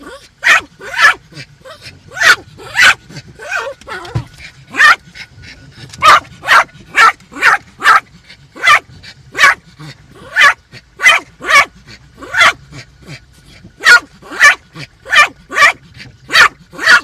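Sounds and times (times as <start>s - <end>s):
small dog barking: 0.0s - 5.0s, 6.0s - 12.6s, 13.8s - 17.0s
windshield wipers sweeping: 0.3s - 17.0s.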